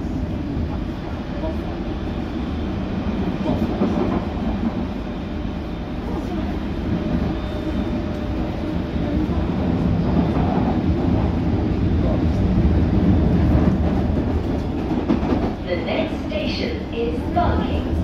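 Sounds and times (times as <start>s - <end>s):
train wheels on rail: 0.0s - 18.0s.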